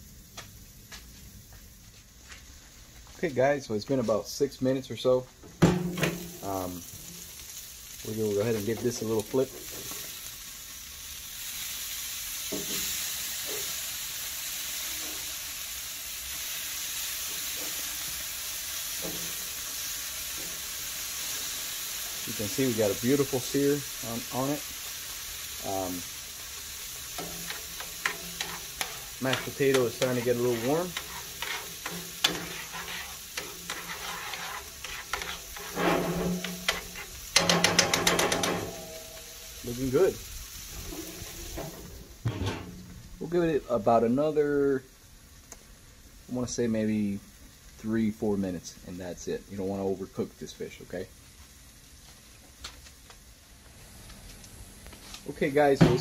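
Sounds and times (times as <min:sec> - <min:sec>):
fish sizzling on a grill: 0:00.0 - 0:56.0
crackles: 0:06.0 - 0:55.8.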